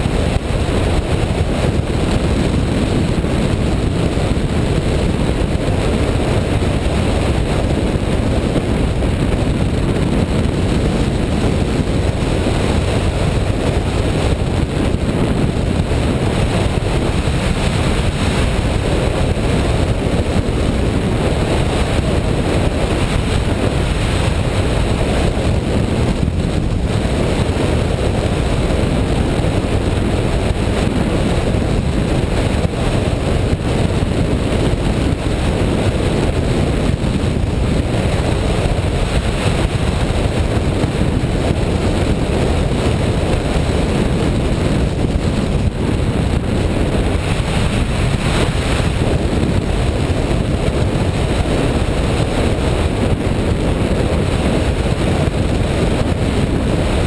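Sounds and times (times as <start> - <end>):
wind buffeting on microphone: 0.0 - 57.0.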